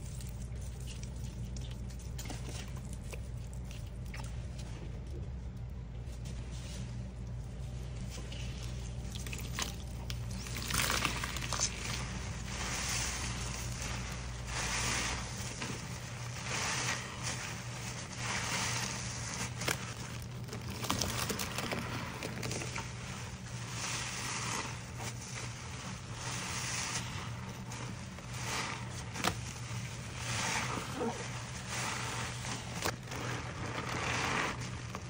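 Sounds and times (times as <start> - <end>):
sponges squelching with foam: 0.0 - 5.4, 6.0 - 35.0.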